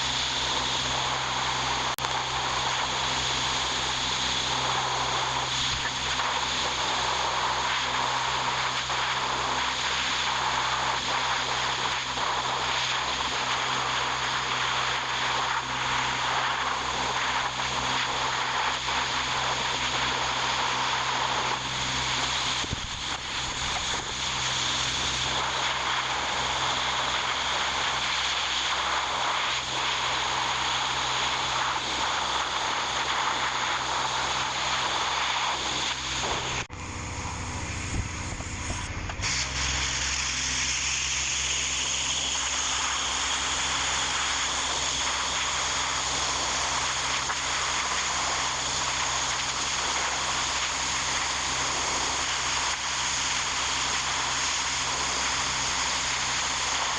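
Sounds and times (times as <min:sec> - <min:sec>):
motor humming: 0:00.0 - 0:49.7.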